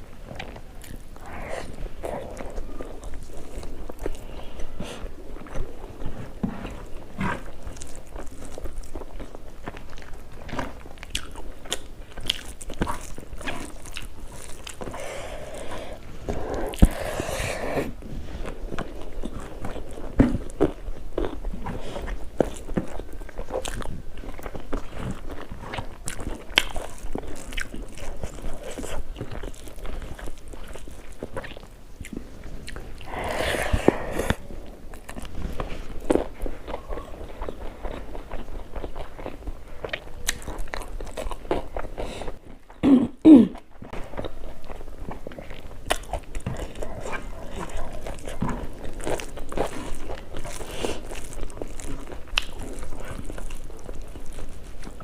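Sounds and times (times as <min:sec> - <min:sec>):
person chewing crunchy food: 0:00.0 - 0:42.8, 0:43.5 - 0:55.0.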